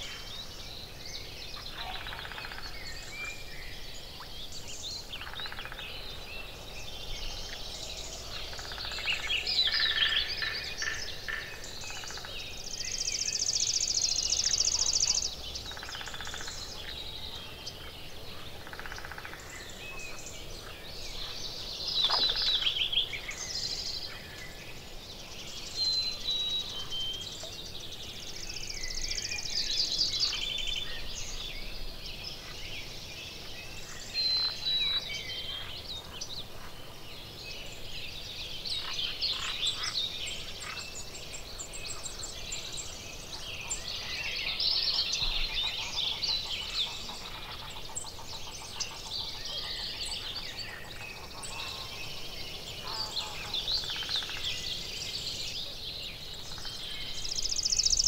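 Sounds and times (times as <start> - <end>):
chorus of songbirds: 0.0 - 58.0.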